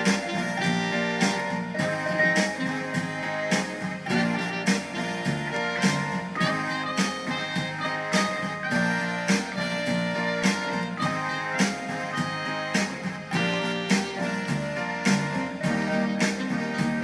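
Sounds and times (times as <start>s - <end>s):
keyboard instrumental tune: 0.0s - 17.0s.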